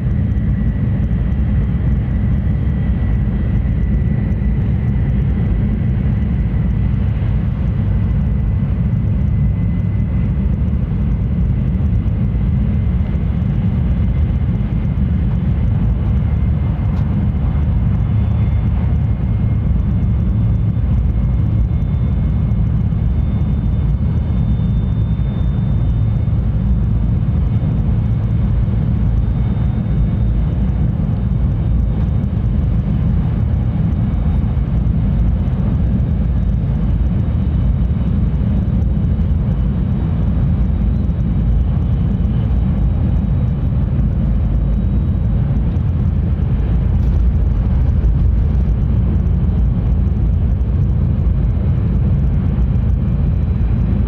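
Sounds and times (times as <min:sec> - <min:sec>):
faint high whine: 0:00.0 - 0:54.0
high-speed train rumble: 0:00.0 - 0:54.0.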